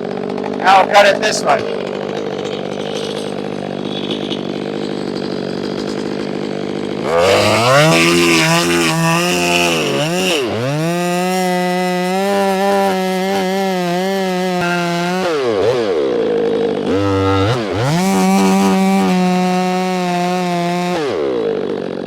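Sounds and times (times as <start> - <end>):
chainsaw idling and revving: 0.0 - 22.0.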